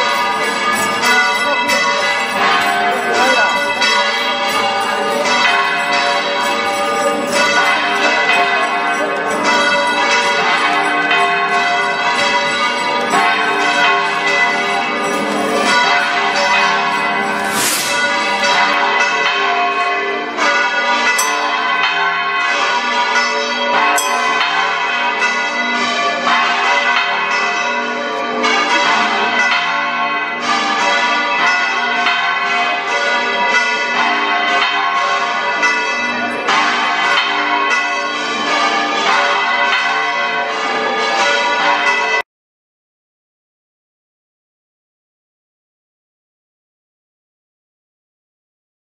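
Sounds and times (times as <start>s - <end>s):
church bells pealing: 0.0s - 42.2s.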